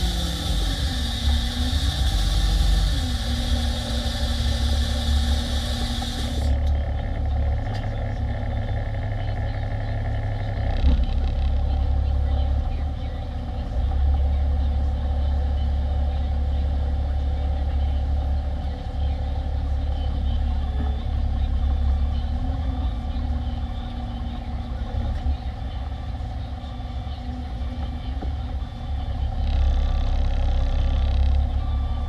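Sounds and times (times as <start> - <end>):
diesel truck engine droning: 0.0 - 32.0.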